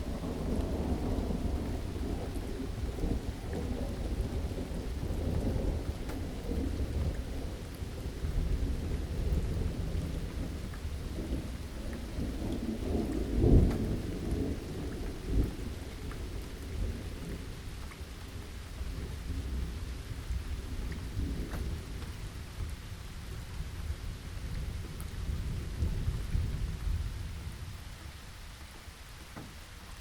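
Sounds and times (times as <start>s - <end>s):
rolling thunder: 0.0s - 17.8s, 18.4s - 27.8s
rain falling: 0.0s - 30.0s
raindrop ticks: 0.0s - 30.0s.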